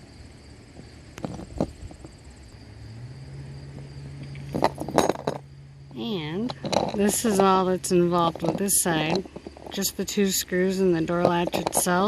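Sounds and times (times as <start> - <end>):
cricket trill: 0.0 - 12.0.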